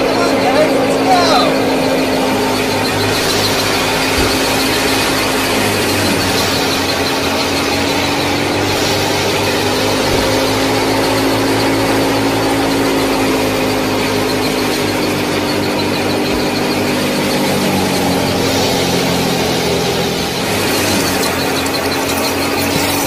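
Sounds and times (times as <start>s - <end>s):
small motor whining: 0.0s - 23.0s.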